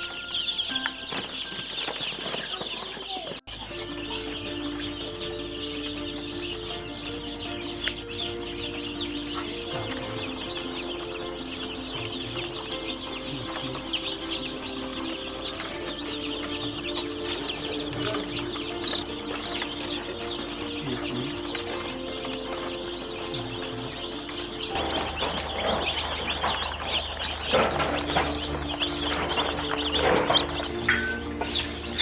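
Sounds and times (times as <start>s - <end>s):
music playing: 0.0s - 2.6s, 3.4s - 32.0s
young chickens peeping: 0.0s - 32.0s.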